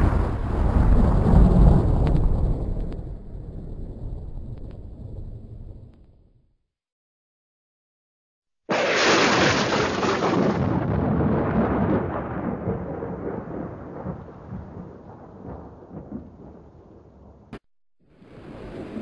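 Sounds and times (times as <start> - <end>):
thunder rumbling: 0.0 - 6.0, 8.7 - 17.5, 18.2 - 19.0.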